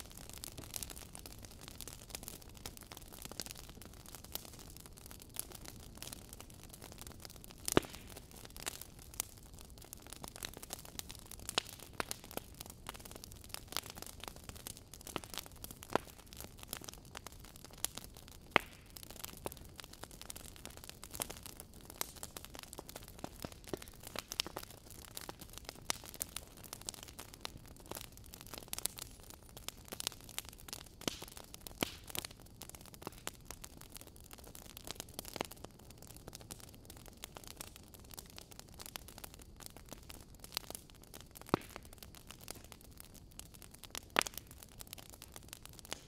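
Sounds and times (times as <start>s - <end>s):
faint fire hiss: 0.0s - 46.0s
wood fire crackling: 0.0s - 46.0s.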